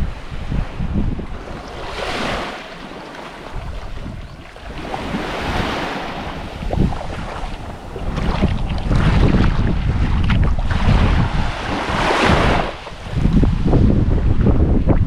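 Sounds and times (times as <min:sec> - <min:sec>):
sea waves washing onto beach: 0:00.0 - 0:15.0
wind buffeting microphone: 0:00.0 - 0:15.0.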